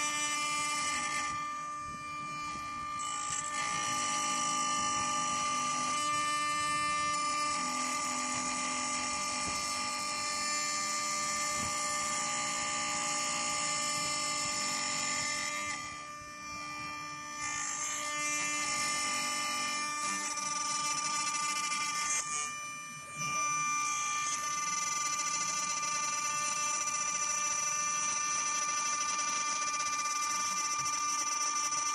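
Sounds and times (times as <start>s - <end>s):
router spindle whine: 0.0s - 31.9s.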